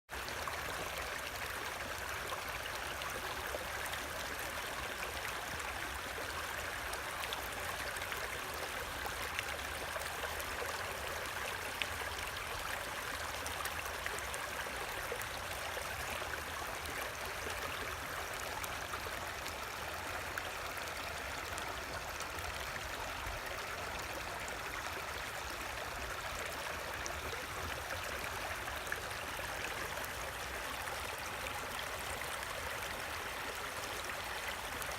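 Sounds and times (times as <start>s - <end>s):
creek water running over rocks: 0.1s - 34.9s.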